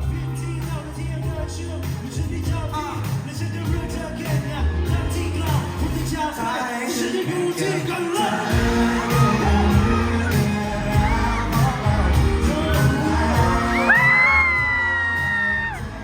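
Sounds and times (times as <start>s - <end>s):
bass and drums: 0.0s - 6.4s, 8.5s - 16.0s
live pop band playing: 0.0s - 16.0s
person singing: 0.0s - 16.0s.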